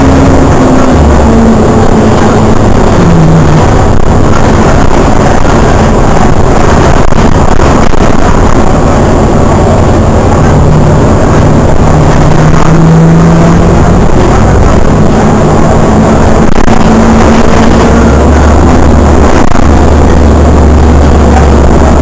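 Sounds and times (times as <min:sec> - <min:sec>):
car engine hum: 0:00.0 - 0:22.0
road and wind noise: 0:00.0 - 0:22.0.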